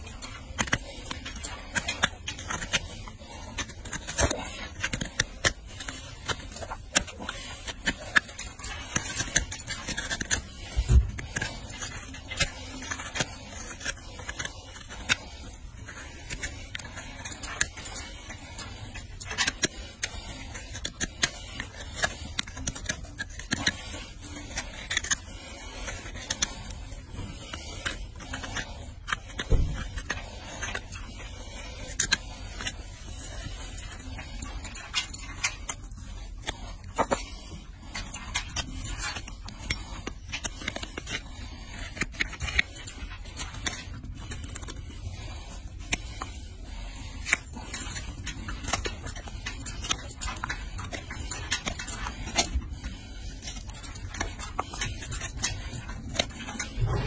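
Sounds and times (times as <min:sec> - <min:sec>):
hoof knife scraping hoof: 0:00.0 - 0:57.0.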